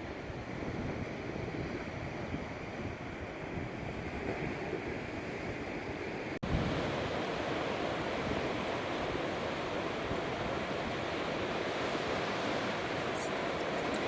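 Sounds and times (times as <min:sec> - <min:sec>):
ocean surf: 0:00.0 - 0:14.0
wind on microphone: 0:00.0 - 0:14.0.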